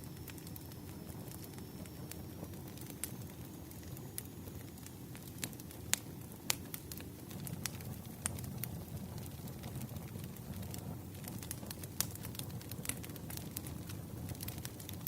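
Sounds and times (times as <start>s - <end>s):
fire crackling and popping: 0.0s - 15.0s
fire flames rumbling: 0.2s - 15.0s.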